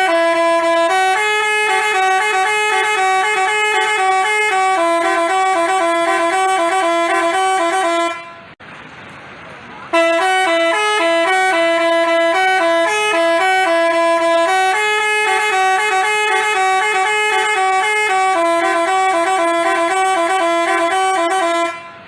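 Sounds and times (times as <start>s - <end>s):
multi-tone musical bus horn: 0.0s - 8.6s, 9.9s - 22.0s.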